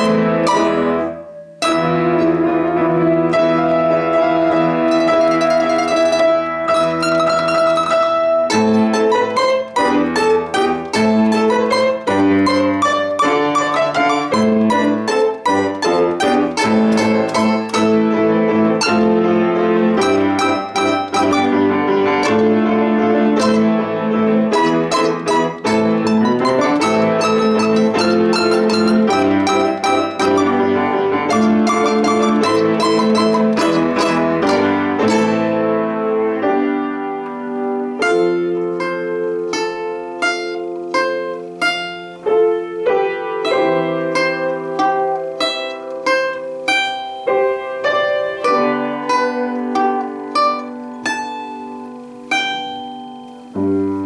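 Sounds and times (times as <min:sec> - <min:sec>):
plucked string instrument: 0:00.0 - 0:54.0.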